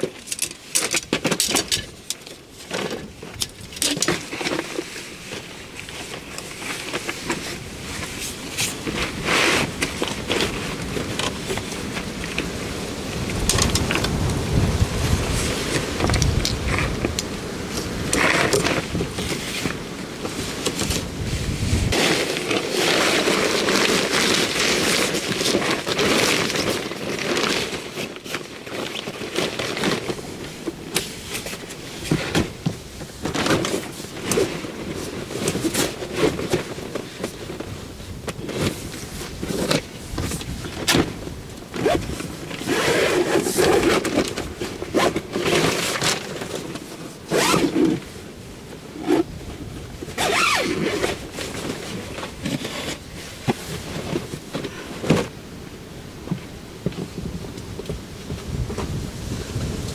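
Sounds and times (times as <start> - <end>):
tent fabric rustling: 0.0 - 57.4.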